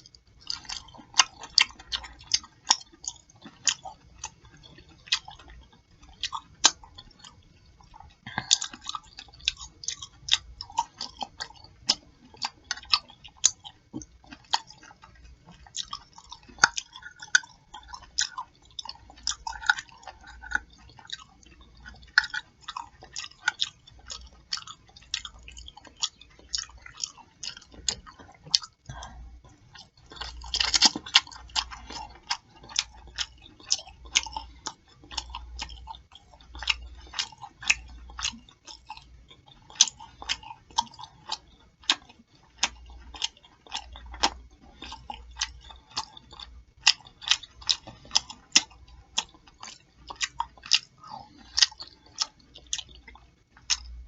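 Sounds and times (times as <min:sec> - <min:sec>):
open-mouth chewing and lip-smacking: 0:00.0 - 0:54.0.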